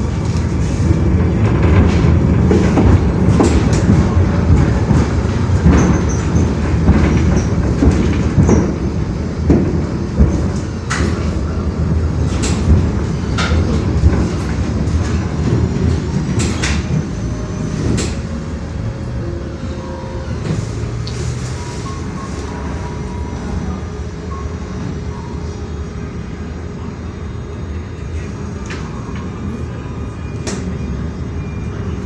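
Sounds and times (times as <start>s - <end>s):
moving vehicle rumble: 0.0s - 32.0s.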